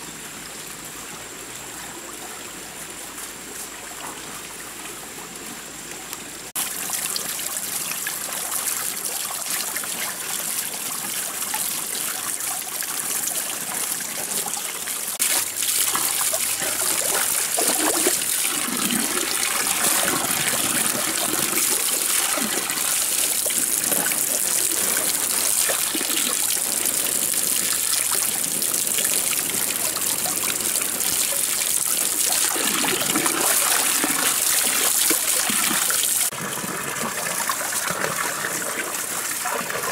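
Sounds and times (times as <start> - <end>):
water splashing in tub: 6.5 - 39.9
water pouring from pipe spout: 6.6 - 39.9.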